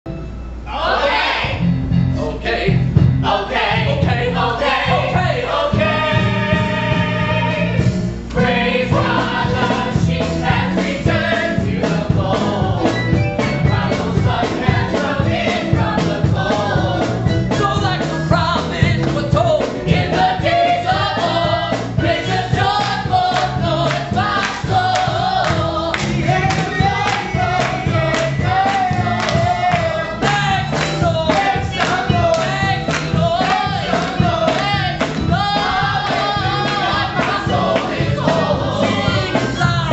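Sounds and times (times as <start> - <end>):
gospel choir singing: 0.7 - 39.9
band playing over a beat: 2.7 - 39.9.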